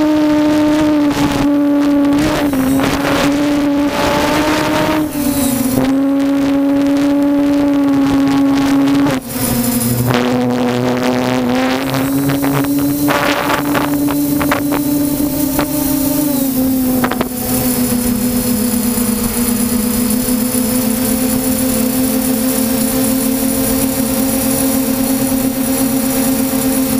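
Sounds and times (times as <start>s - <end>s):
drone motors whining: 0.0s - 26.9s
wind noise on microphone: 0.0s - 26.9s.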